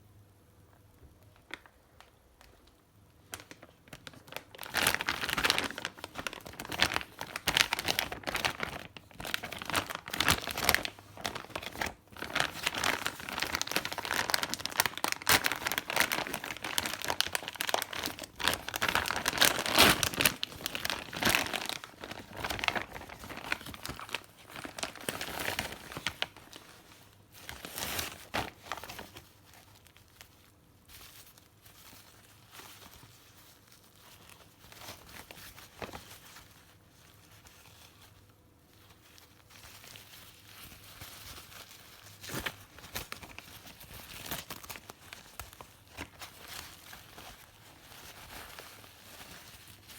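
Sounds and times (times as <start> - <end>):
plastic packaging crinkling and tearing: 1.4 - 49.9.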